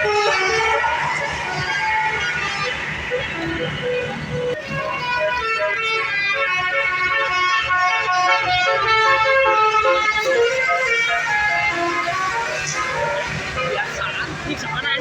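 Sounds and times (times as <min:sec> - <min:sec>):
bus musical horn playing tune: 0:00.0 - 0:14.4.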